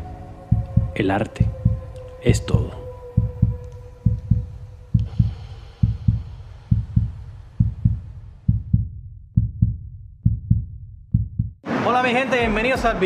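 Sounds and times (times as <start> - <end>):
heartbeat thumps: 0.4 - 11.6.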